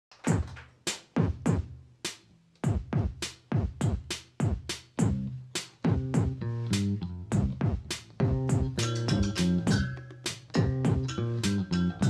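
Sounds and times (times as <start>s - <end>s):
electronic drum beat: 0.2s - 11.8s.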